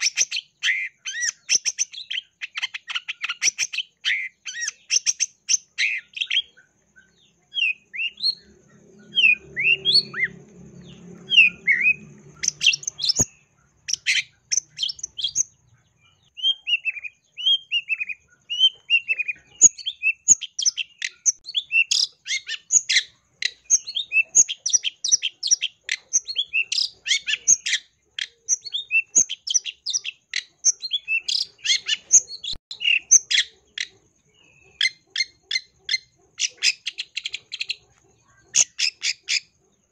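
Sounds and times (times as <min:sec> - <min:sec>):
shrike singing: 0:00.0 - 0:39.5.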